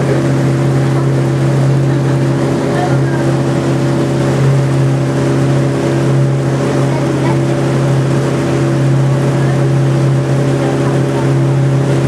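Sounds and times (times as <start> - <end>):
boat engine humming: 0.0 - 12.0
water rushing: 0.0 - 12.0
wind: 0.0 - 12.0.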